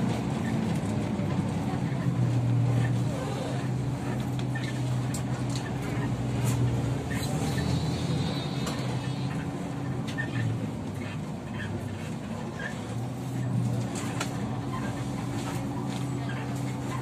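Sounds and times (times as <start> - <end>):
road noise: 0.0 - 17.0
trolleybus hum: 0.0 - 17.0.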